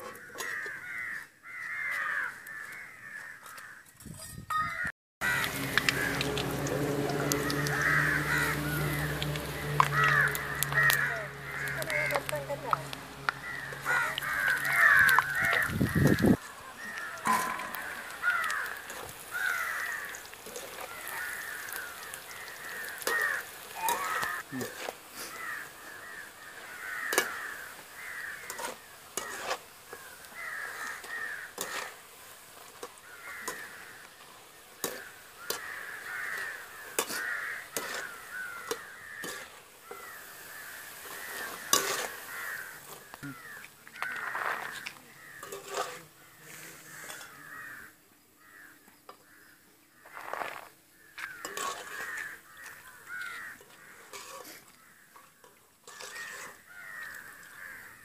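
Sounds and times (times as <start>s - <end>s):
birds calling: 4.5s - 32.0s, 32.9s - 58.0s.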